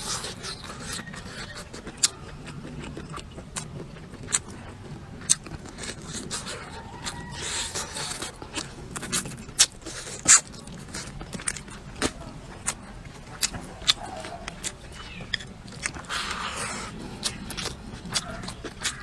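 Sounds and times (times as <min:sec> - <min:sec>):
chewing with crunches: 0:00.0 - 0:19.0.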